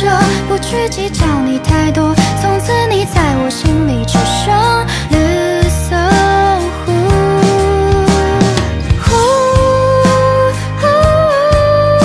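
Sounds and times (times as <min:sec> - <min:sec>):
bass: 0:00.0 - 0:12.0
pop ballad singer: 0:00.0 - 0:12.0.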